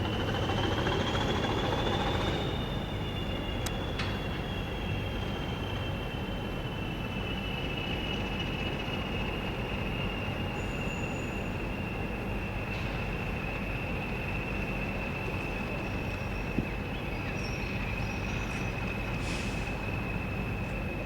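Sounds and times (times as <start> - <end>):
train rumble: 0.0 - 21.0
train wheels squealing: 0.0 - 21.0.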